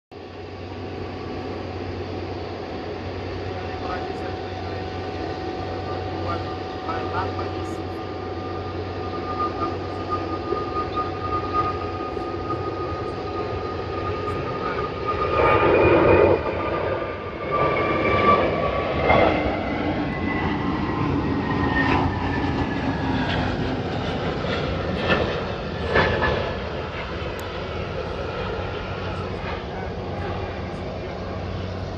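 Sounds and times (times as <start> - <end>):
broad rumble: 0.1 - 31.9
jet engines whining: 0.1 - 31.9.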